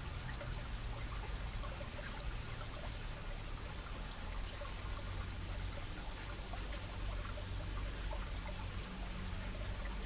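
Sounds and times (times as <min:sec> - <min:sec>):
stream splashing over rocks: 0:00.0 - 0:10.0.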